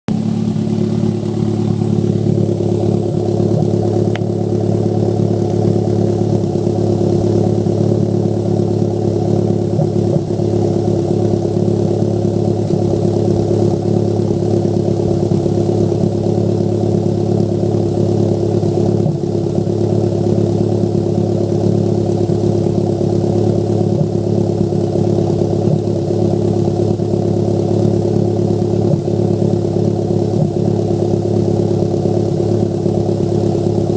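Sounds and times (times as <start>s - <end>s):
car engine running: 0.0s - 33.9s
exhaust popping: 0.1s - 33.9s.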